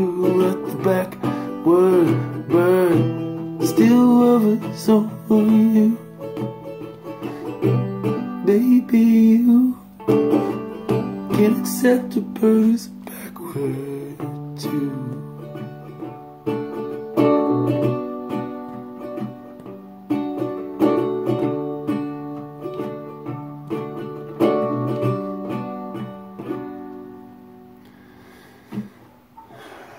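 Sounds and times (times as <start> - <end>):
plucked string instrument chords: 0.0 - 29.4.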